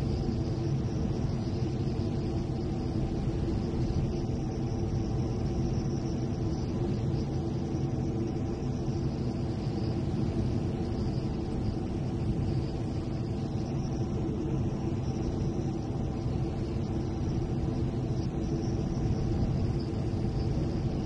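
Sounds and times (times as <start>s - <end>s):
jet engine drone: 0.0s - 21.0s.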